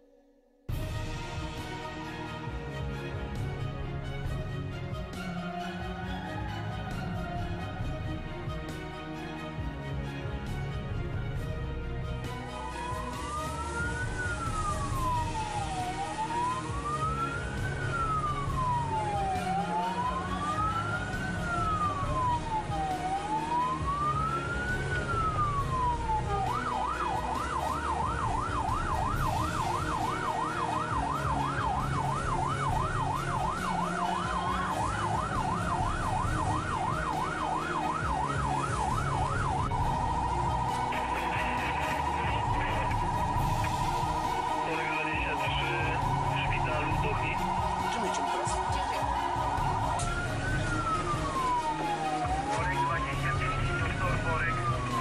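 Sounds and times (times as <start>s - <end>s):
engine and road rumble: 0.8s - 55.0s
ambulance siren wailing and yelping: 4.2s - 11.4s, 12.1s - 55.0s.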